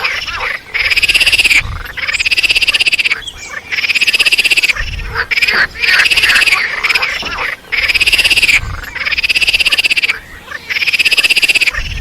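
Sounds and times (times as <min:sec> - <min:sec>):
squirrel chattering alarm call: 0:00.0 - 0:12.0.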